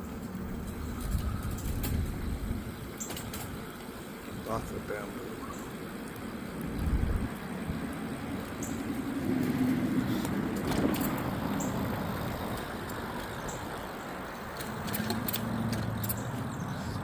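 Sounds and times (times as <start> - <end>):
bicycle riding on trail: 0.0 - 17.0.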